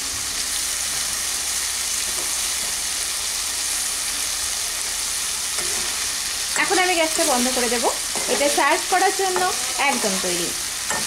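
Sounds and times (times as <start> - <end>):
curry sizzling in pan: 0.0 - 11.0.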